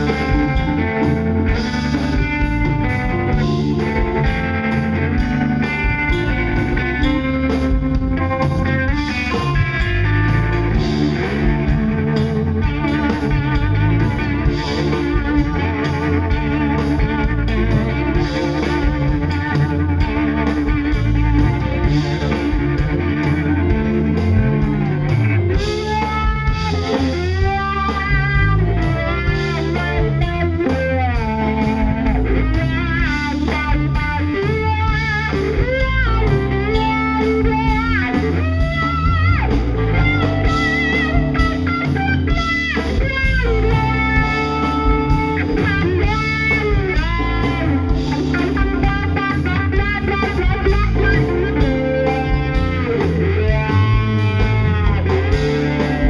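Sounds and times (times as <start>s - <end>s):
bass guitar: 0.0s - 56.0s
drum kit: 0.0s - 56.0s
electric guitar solo: 0.0s - 56.0s.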